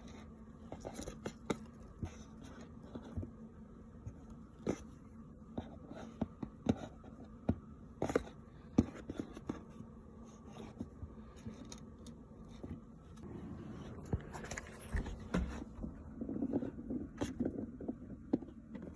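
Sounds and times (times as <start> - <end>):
faint steady hum: 0.0 - 18.9.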